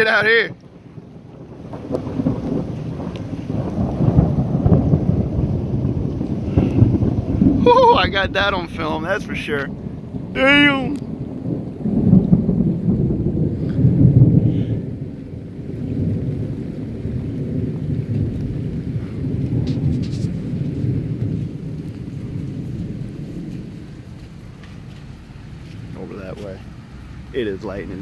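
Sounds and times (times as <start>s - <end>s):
low rumble of thunder: 0.0s - 28.0s.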